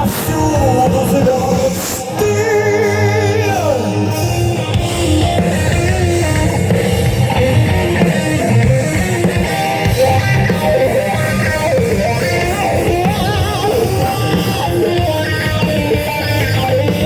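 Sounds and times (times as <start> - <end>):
live rock band instrumental: 0.0 - 17.0.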